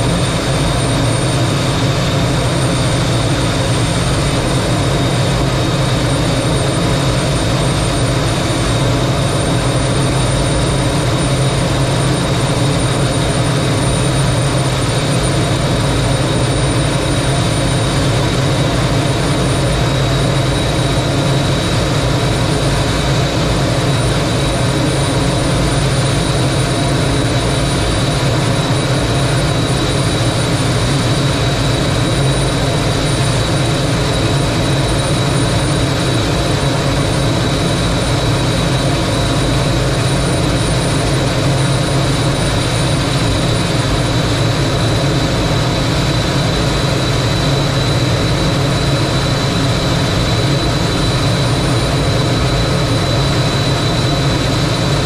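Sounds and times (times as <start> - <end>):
jet engine running: 0.0 - 55.0.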